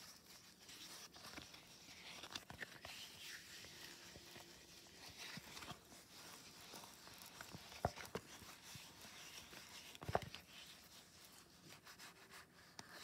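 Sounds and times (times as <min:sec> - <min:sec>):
faint cardboard handling: 0:00.0 - 0:13.0.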